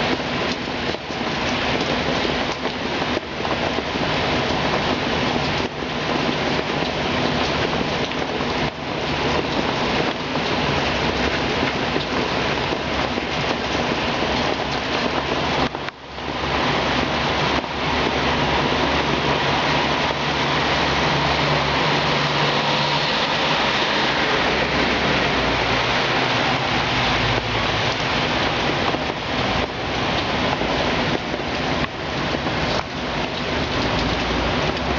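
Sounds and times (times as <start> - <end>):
heavy rain and wind: 0.0 - 34.9.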